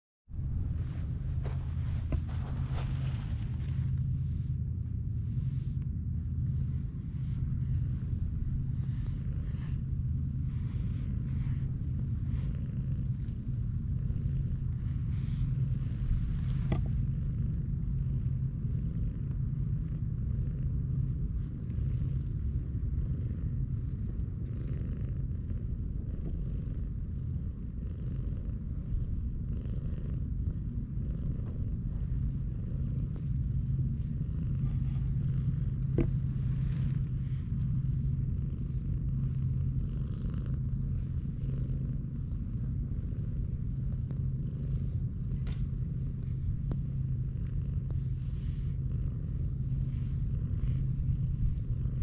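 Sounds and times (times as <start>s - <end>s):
cat purring: 0.4s - 52.0s.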